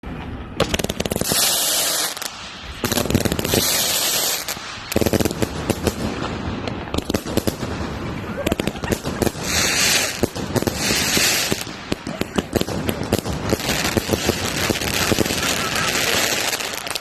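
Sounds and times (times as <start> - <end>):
fireworks crackling bangs: 0.1 - 17.0
fireworks hissing: 0.6 - 17.0.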